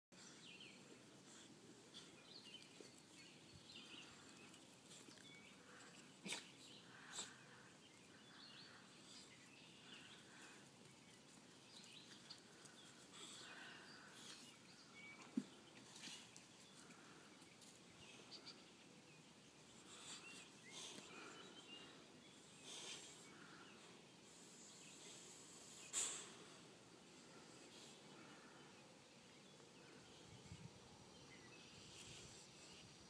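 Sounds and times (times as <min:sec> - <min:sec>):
small birds chirping: 0:00.2 - 0:33.0.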